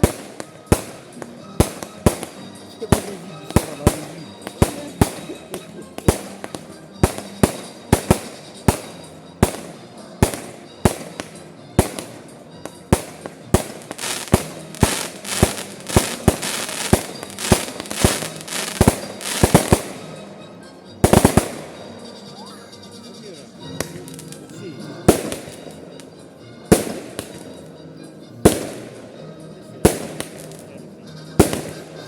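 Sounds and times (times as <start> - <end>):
fireworks crackling: 0.0 - 20.3, 21.0 - 22.6, 23.8 - 26.1, 26.7 - 27.6, 29.8 - 32.0
fireworks bursting: 0.0 - 20.4, 21.0 - 22.4, 23.8 - 26.0, 26.7 - 27.7, 28.4 - 29.2, 29.8 - 30.7, 31.3 - 32.0.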